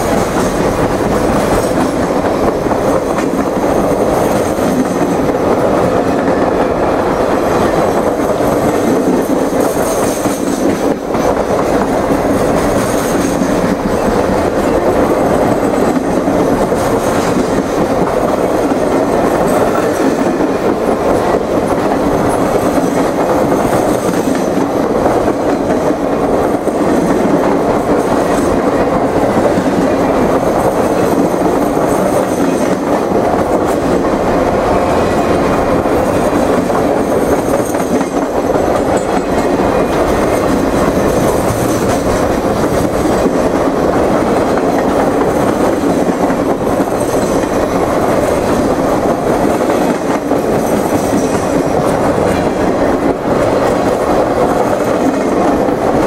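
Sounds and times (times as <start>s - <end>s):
steel wheels rumbling on rail: 0.0s - 56.0s
wheels clicking over rail joints: 0.0s - 56.0s.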